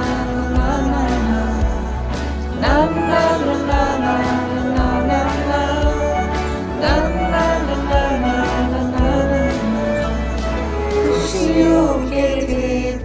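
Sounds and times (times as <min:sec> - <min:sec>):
song beat and bass: 0:00.0 - 0:13.0
voice singing sliding phrase: 0:02.6 - 0:13.0.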